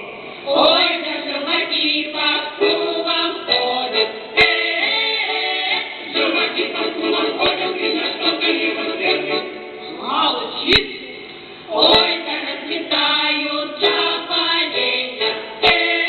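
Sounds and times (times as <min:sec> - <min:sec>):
folk choir singing: 0:00.5 - 0:09.9, 0:11.7 - 0:16.0.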